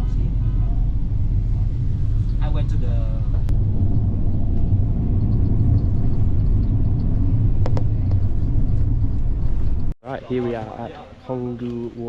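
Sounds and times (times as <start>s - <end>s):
bus road and engine rumble: 0.0s - 10.0s.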